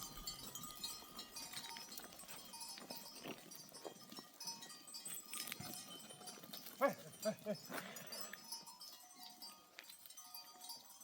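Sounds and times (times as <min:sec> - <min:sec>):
faint flock of sheep and goats: 0:00.0 - 0:11.0.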